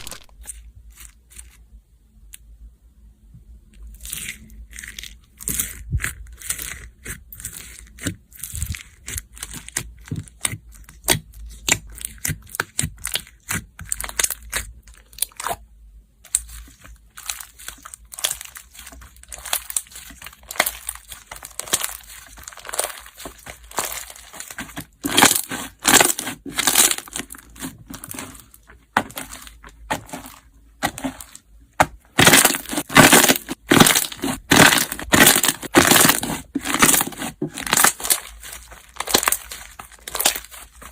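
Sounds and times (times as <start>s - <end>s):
hands squeezing icy slime: 3.9s - 15.6s, 16.2s - 40.9s.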